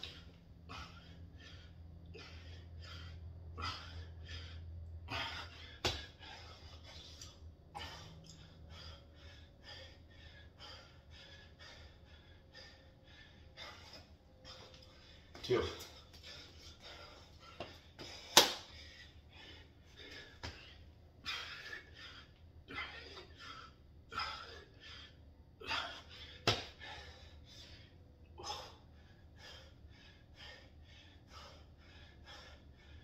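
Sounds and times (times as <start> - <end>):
man breathing hard: 0.0 - 33.0.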